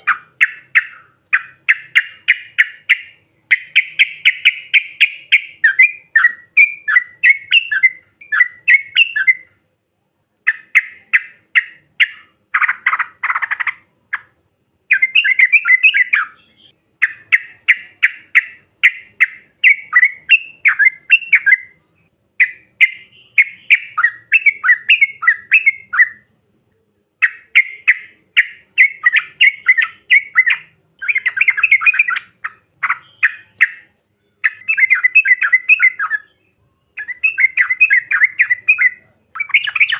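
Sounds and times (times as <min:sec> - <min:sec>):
bulbul chattering song: 0:00.0 - 0:09.6, 0:10.4 - 0:26.4, 0:27.1 - 0:39.9.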